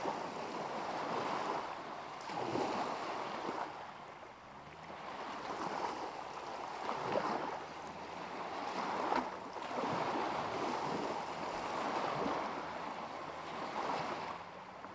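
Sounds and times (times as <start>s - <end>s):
waves lapping at shoreline: 0.0s - 14.9s.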